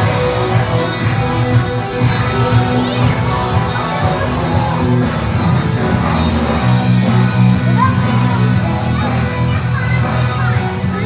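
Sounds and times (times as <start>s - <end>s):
music with sustained bass: 0.0s - 11.0s.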